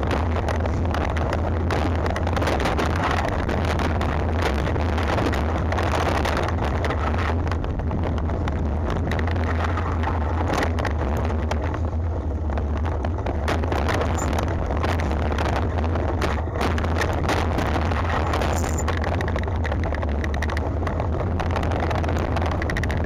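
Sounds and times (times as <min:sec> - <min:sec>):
bike rattling and knocking: 0:00.0 - 0:23.0
wind rumble on microphone: 0:00.0 - 0:23.0.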